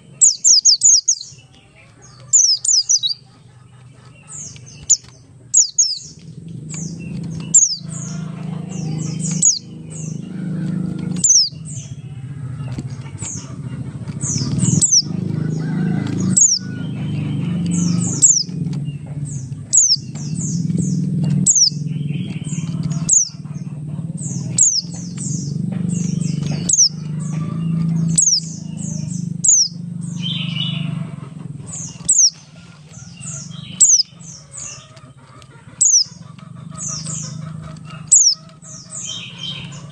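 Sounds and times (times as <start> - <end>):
bird chirping: 0.0 - 39.9
low rumbling noise: 0.0 - 39.9.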